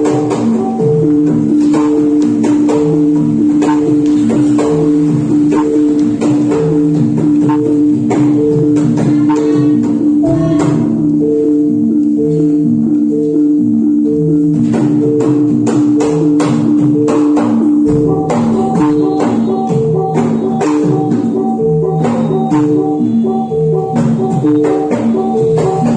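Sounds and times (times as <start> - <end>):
drum strokes: 0.0 - 11.2, 14.6 - 23.1, 23.8 - 25.9
metallophone notes: 0.0 - 25.9.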